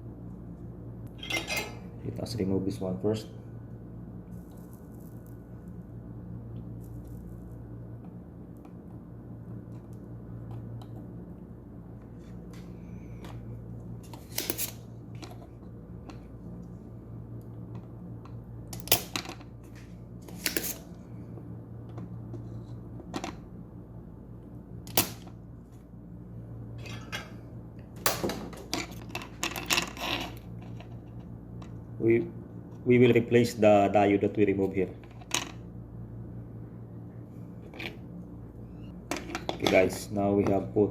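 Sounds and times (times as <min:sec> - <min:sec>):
bench equipment hum: 0:00.0 - 0:33.5.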